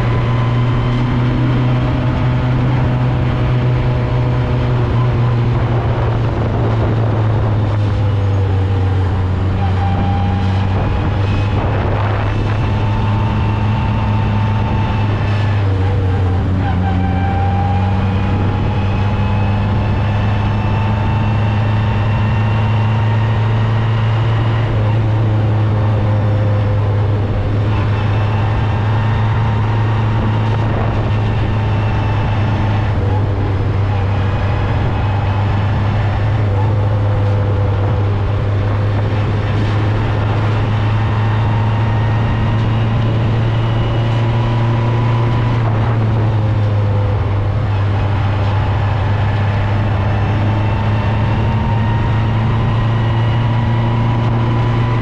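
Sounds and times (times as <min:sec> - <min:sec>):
race car engine droning: 0:00.0 - 0:55.0.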